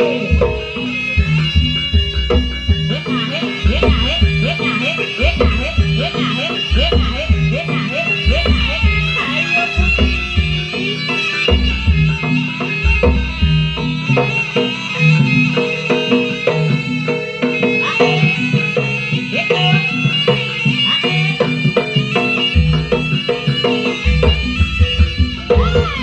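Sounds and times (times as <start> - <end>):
hand drums: 0.0 - 26.0
shrill reed wind instrument: 0.0 - 26.0.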